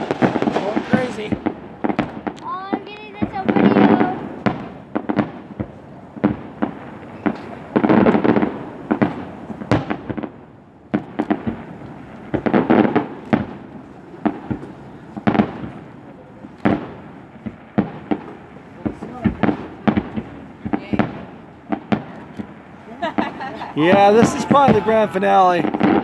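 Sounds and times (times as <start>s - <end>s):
fireworks booming: 0.0s - 26.0s
fireworks crackling bangs: 0.0s - 26.0s.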